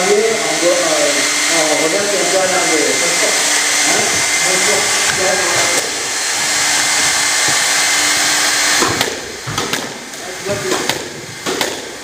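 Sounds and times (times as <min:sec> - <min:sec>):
blowing air rushing: 0:00.0 - 0:12.0.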